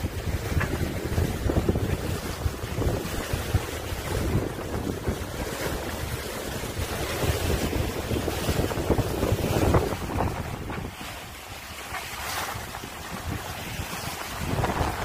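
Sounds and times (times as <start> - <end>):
water washing along boat hull: 0.0 - 15.0
wind buffeting microphone: 0.0 - 15.0.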